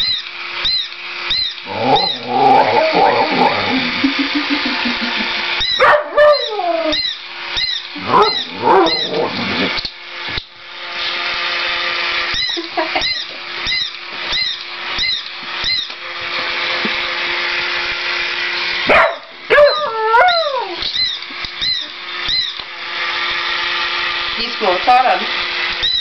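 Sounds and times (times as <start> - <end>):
toy motor whirring and clicking: 0.0 - 11.1, 11.7 - 17.0, 19.7 - 26.0.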